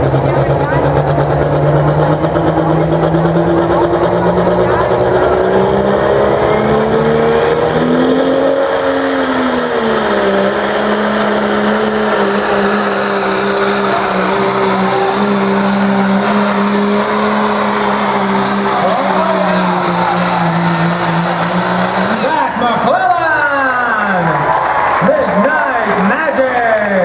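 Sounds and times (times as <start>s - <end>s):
diesel truck engine under load: 0.0s - 27.0s.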